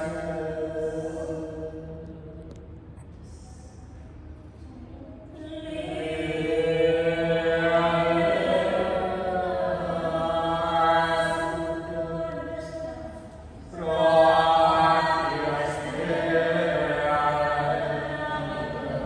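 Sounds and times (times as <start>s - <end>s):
group chanting long notes: 0.0s - 2.5s, 5.4s - 19.0s.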